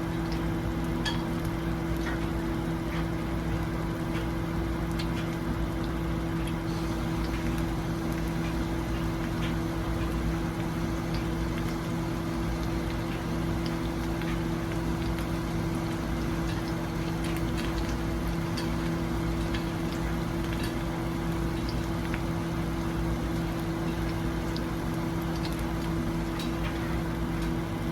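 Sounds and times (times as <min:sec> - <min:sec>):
food sizzling in a pan: 0:00.4 - 0:27.8.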